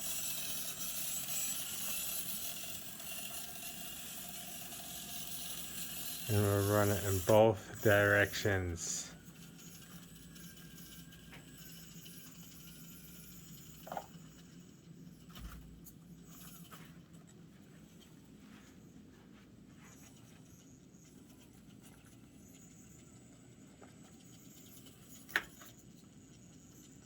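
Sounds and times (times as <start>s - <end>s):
small electric motor whirring: 0.0s - 16.9s, 20.5s - 27.0s.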